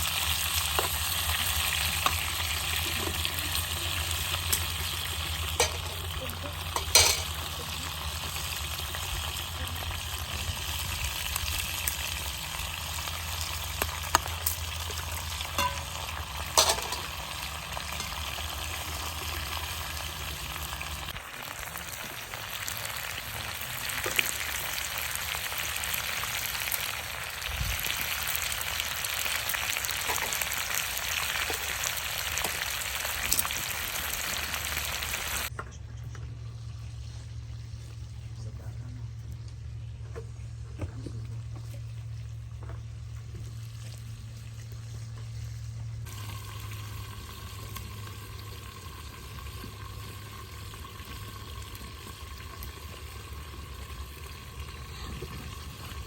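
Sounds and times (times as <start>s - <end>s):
food sizzling in a pan: 0.0s - 35.5s, 46.0s - 56.0s.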